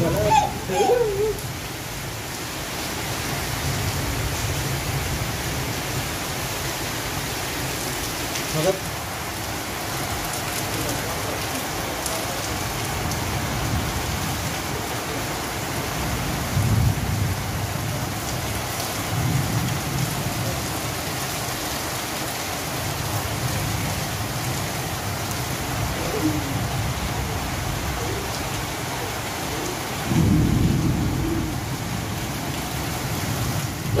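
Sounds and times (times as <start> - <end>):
rain drumming on tin roofs: 0.0 - 34.0.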